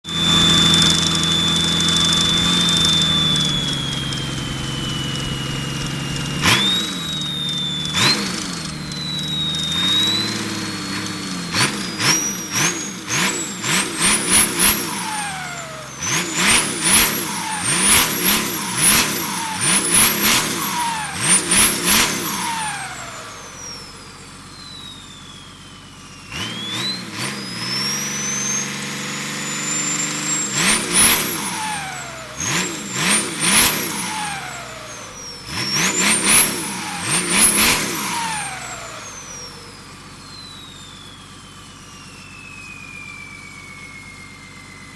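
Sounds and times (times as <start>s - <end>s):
engine revving: 0.0s - 44.9s
turbo whistling: 0.0s - 44.9s.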